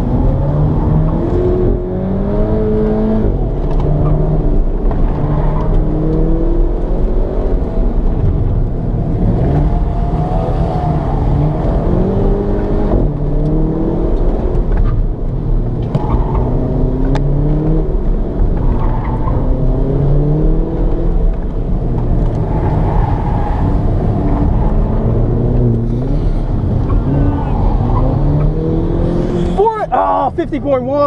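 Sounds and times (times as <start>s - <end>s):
car engine accelerating: 0.0s - 31.0s
road and tyre noise: 0.0s - 31.0s.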